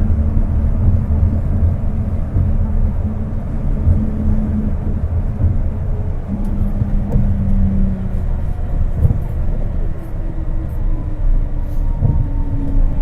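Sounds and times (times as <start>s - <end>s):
train car low rumble: 0.0s - 13.0s.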